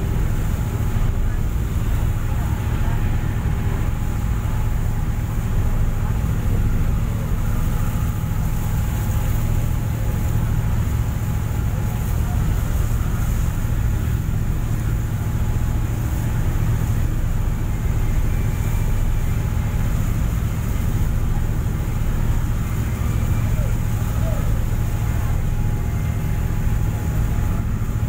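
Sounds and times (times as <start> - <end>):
ship engine drone: 0.0 - 28.0
water noise: 0.0 - 28.0
wind: 0.0 - 28.0.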